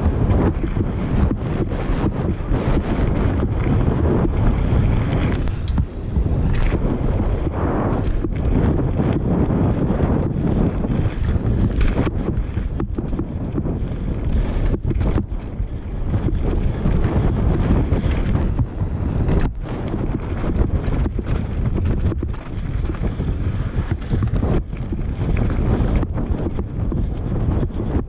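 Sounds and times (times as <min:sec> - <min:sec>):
bike tyres rumbling on gravel: 0:00.0 - 0:28.0
wind buffeting microphone: 0:00.0 - 0:28.0.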